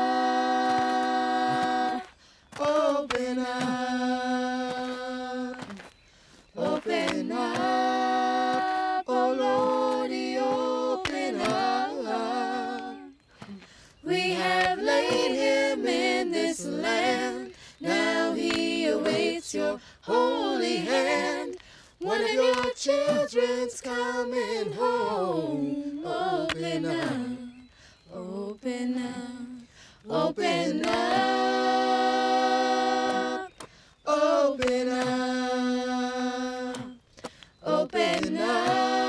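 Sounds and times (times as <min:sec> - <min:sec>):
a cappella voices singing: 0:00.0 - 0:39.0.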